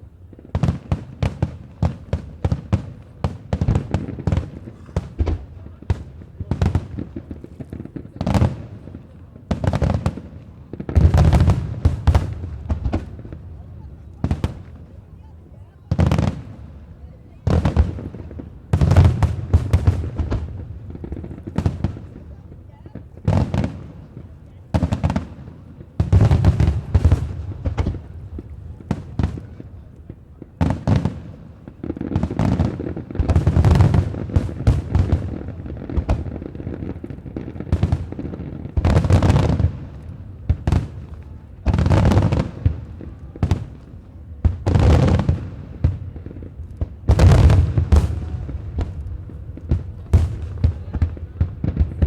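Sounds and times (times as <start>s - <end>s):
fireworks booming: 0.0s - 52.0s
fireworks crackling: 0.0s - 52.0s.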